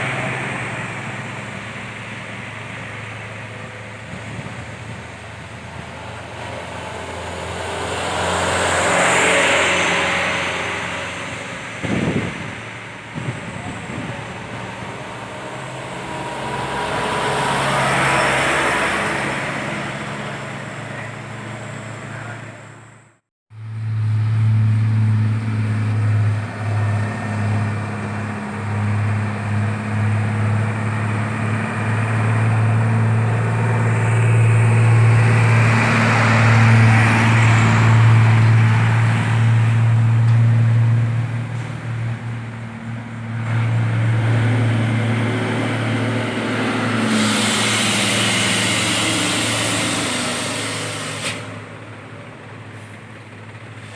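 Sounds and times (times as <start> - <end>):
heavy vehicle engine droning: 0.0 - 53.9
road traffic passing: 0.0 - 53.9.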